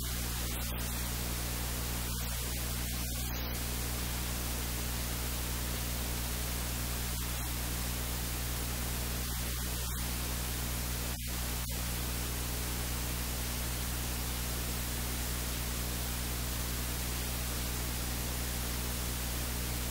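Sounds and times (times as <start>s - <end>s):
low electrical hum: 0.0s - 19.9s
recording hiss: 0.0s - 19.9s.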